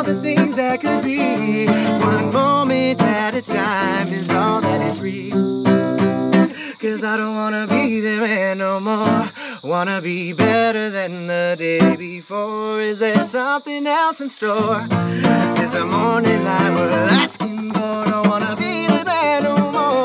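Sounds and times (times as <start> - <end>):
man singing: 0.0 - 5.5, 6.5 - 20.0
acoustic guitar strumming: 0.0 - 20.0.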